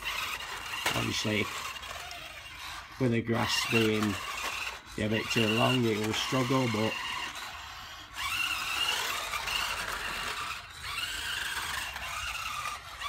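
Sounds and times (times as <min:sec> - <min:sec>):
toy car electric motor whining: 0:00.0 - 0:13.0.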